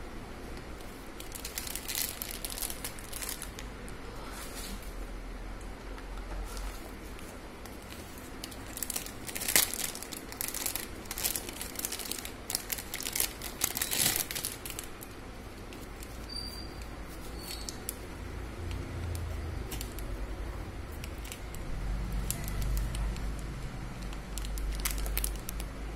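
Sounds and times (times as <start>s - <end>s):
plastic wrapping crinkling: 0.8s - 3.7s, 6.4s - 18.2s, 19.0s - 25.9s.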